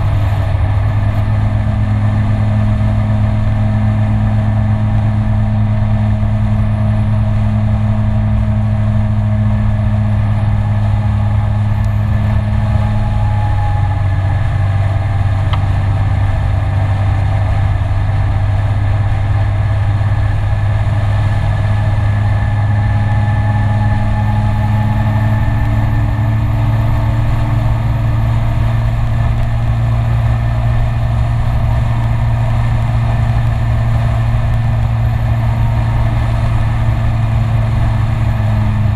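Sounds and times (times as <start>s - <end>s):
scooter engine running: 0.0s - 38.9s
wind and road noise: 0.0s - 38.9s.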